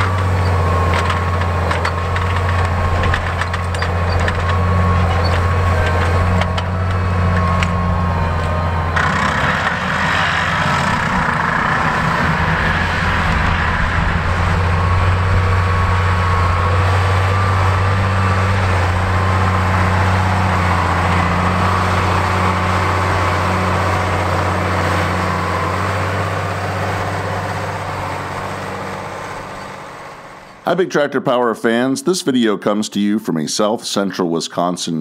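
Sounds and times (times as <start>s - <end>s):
tractor diesel engine drone: 0.0s - 35.0s.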